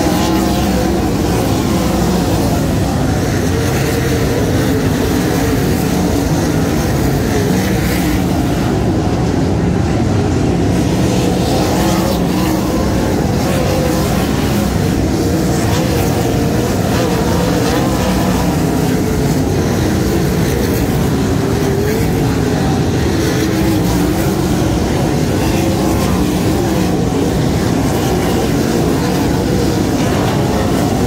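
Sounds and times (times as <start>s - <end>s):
race car engines roaring: 0.0s - 31.0s.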